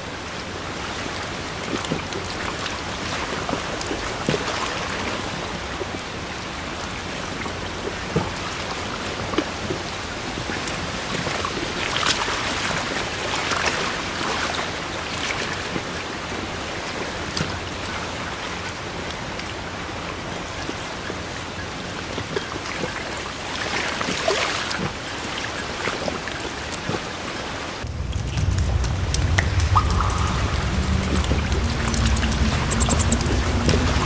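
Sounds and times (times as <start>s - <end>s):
steady water-like noise: 0.0s - 34.0s.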